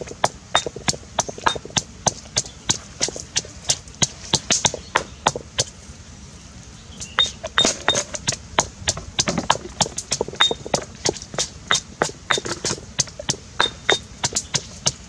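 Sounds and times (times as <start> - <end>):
stone pestle pounding in mortar: 0.0 - 5.7, 7.0 - 15.0.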